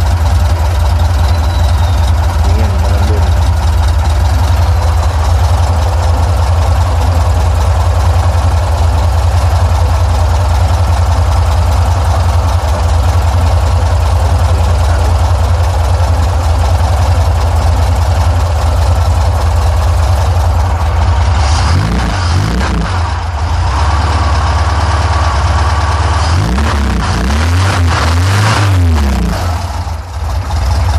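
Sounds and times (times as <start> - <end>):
air-cooled car engine idling: 0.0 - 30.9.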